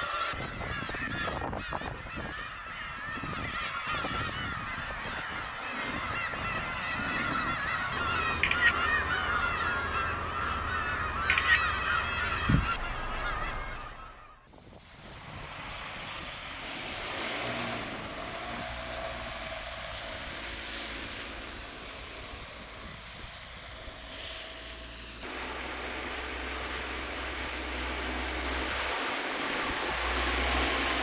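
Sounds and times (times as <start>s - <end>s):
gulls squawking: 0.0s - 14.5s, 16.8s - 31.0s.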